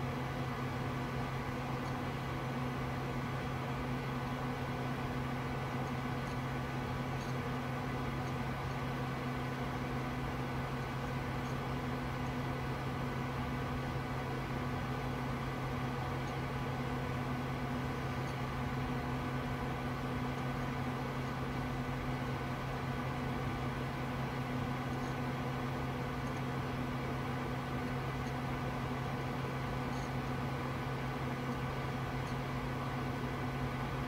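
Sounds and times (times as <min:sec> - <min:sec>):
desktop computer fans humming: 0:00.0 - 0:34.0.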